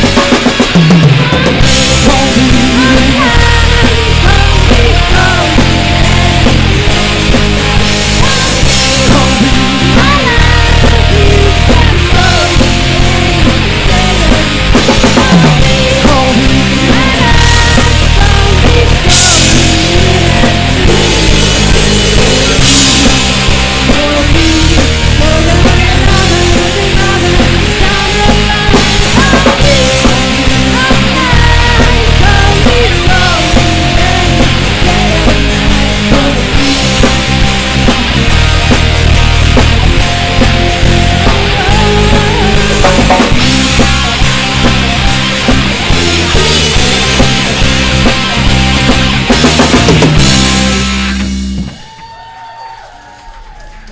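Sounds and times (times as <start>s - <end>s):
rock band playing: 0.0s - 53.8s.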